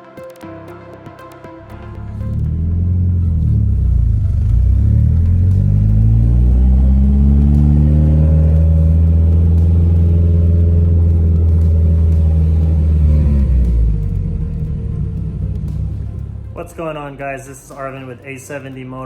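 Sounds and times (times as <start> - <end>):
car engine revving: 2.0 - 17.8.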